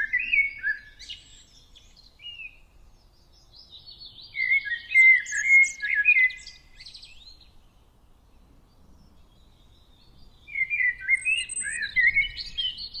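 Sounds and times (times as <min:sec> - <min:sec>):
songbird chirping and warbling: 0:00.0 - 0:13.0.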